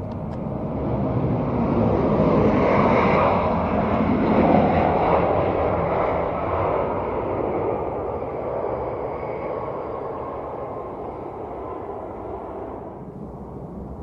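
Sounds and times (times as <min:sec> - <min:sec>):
jet engines of passing plane: 0:00.0 - 0:14.0.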